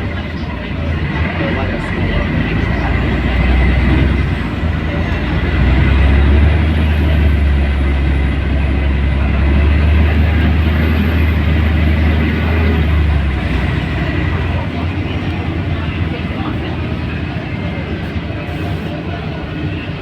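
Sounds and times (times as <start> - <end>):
bus diesel engine rumble: 0.0 - 20.0
road noise: 0.0 - 20.0.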